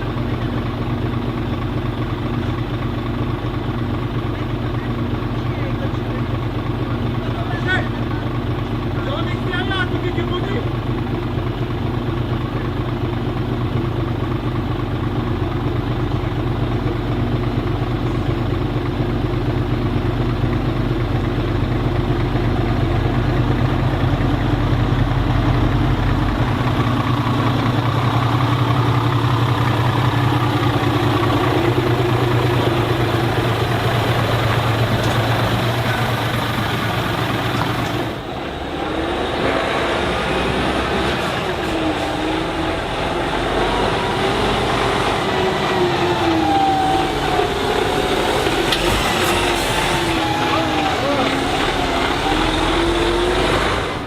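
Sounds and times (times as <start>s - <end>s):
truck diesel engines running: 0.0s - 54.0s.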